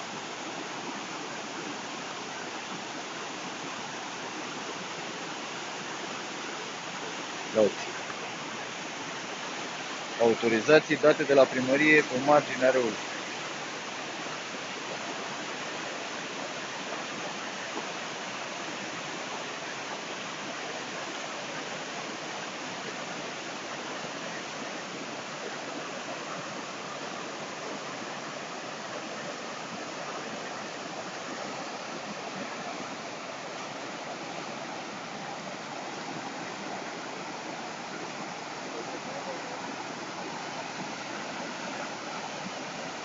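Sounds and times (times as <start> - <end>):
river rushing over rocks: 0.0 - 43.0.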